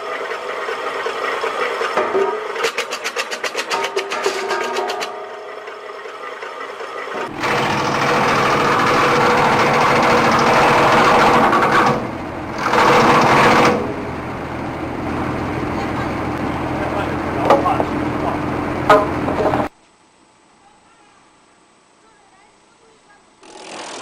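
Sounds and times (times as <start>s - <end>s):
wood chipper engine running: 0.0s - 19.7s.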